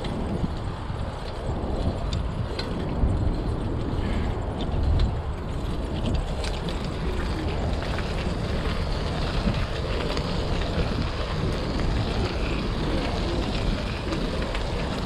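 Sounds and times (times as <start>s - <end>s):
bicycle tyres rolling: 0.0s - 15.0s
wind rumble on microphone: 0.0s - 15.0s.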